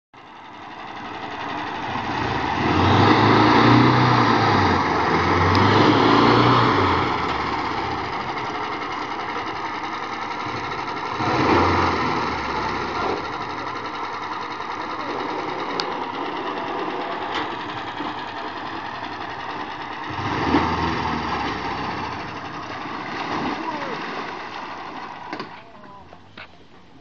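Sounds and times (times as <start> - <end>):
petrol engine revving: 0.2 - 26.7.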